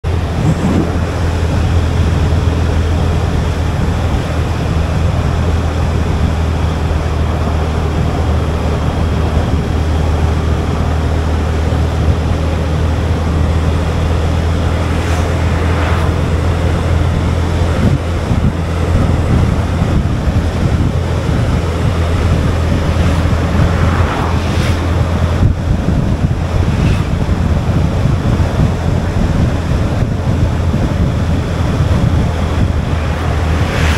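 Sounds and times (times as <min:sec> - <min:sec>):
heavy low rumble: 0:00.0 - 0:33.9
vehicle road noise: 0:00.0 - 0:33.9
wind buffeting microphone: 0:00.0 - 0:33.9.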